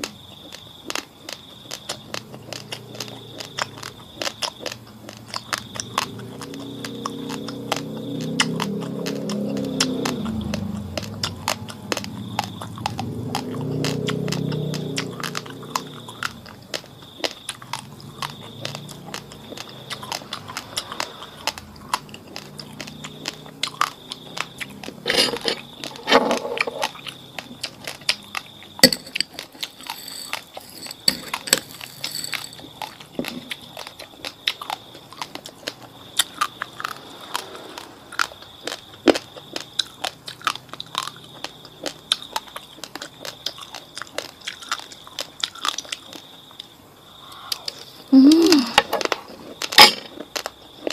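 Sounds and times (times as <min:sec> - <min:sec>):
crunching and chewing rice: 0:00.0 - 0:50.9.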